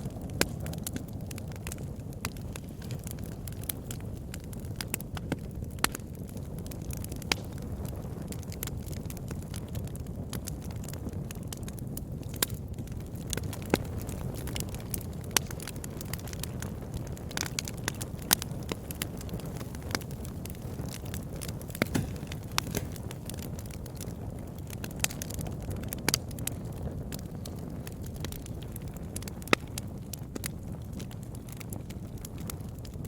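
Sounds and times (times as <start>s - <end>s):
burning wood crackling and popping: 0.0s - 33.0s
low rumble of flames: 0.0s - 33.0s.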